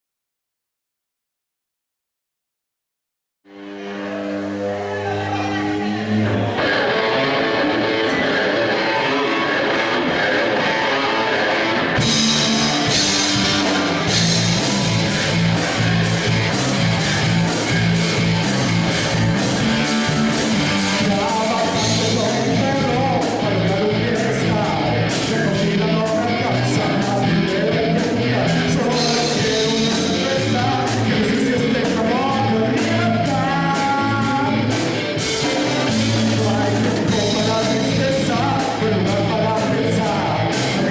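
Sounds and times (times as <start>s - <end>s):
electric guitar: 3.5s - 40.9s
rock band playing: 3.5s - 40.9s
drums: 3.8s - 40.9s
person singing: 4.0s - 40.9s.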